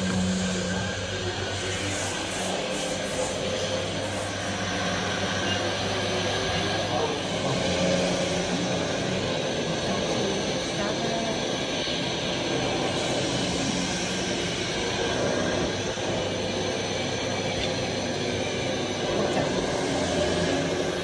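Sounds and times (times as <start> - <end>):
mechanical rumble and hiss: 0.0 - 21.0.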